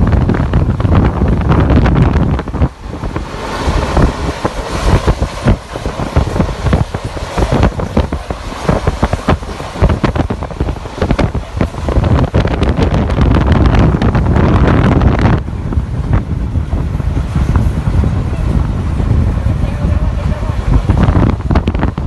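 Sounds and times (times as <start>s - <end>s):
train rumbling: 0.0s - 22.0s
wind buffeting microphone: 0.0s - 22.0s.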